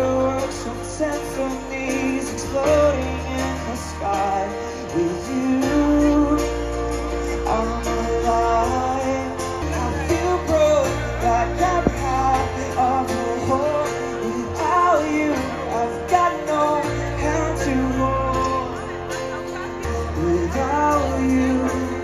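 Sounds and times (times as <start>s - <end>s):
held bass notes: 0.0s - 22.0s
live pop-rock band: 0.0s - 22.0s
person singing: 0.0s - 22.0s.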